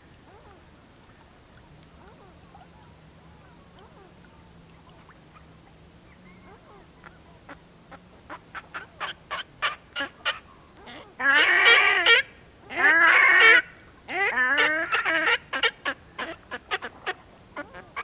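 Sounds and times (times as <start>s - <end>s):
swans calling and trumpeting: 1.6s - 18.0s.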